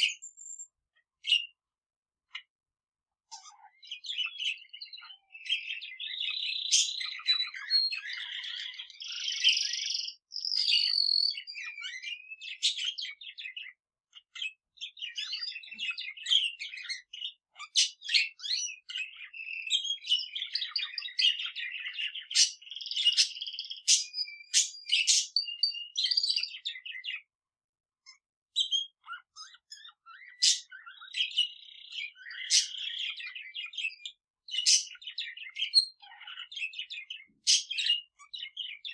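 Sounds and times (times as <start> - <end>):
birds chirping and warbling: 0.0 - 38.9.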